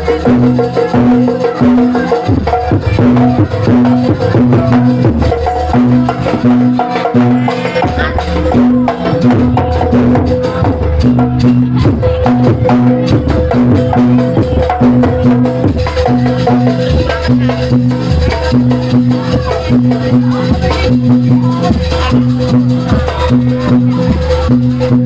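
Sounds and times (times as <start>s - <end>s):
continuous drumming: 0.0s - 25.0s
gamelan ensemble playing: 0.0s - 25.0s.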